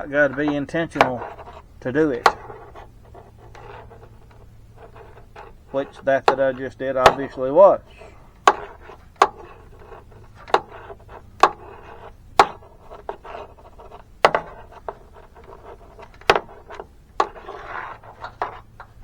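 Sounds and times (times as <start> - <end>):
wiring rubbing and rustling: 0.0 - 19.0.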